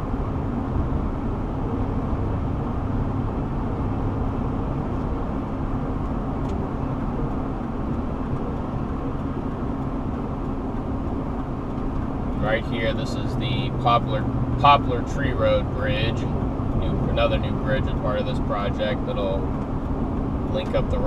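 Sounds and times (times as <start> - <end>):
car road noise from inside: 0.0 - 21.0.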